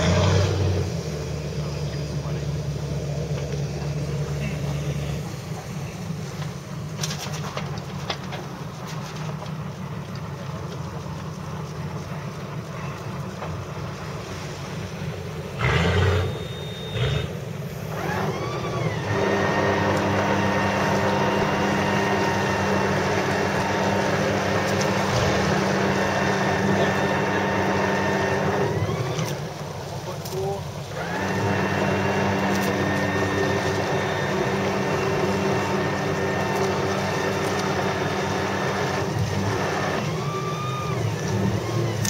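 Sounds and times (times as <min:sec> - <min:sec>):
boat engine running: 0:00.0 - 0:42.0
water noise: 0:00.0 - 0:42.0.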